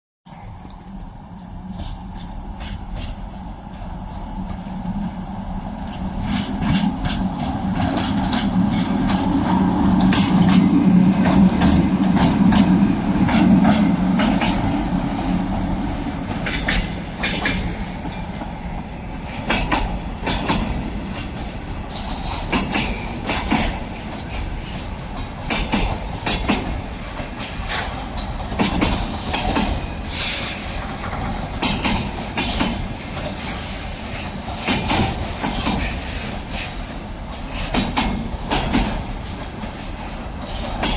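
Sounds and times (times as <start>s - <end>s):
electric locomotive humming: 0.3s - 40.9s
train wheels clacking on rail joints: 1.4s - 40.9s.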